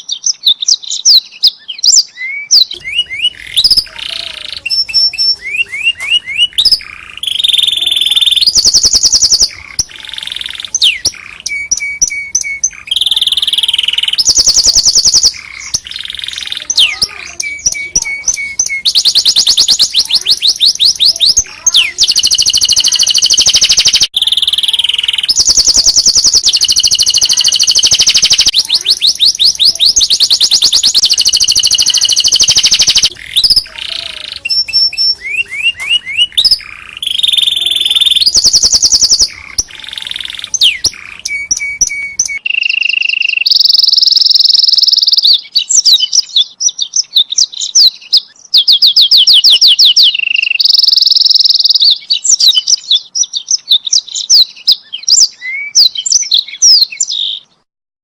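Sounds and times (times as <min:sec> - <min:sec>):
canary singing trills: 0:00.0 - 0:57.7.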